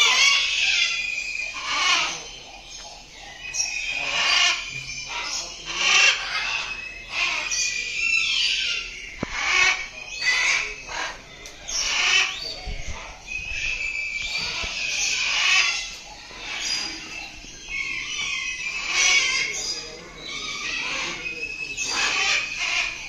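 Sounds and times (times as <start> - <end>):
flock of birds calling: 0.0 - 23.0.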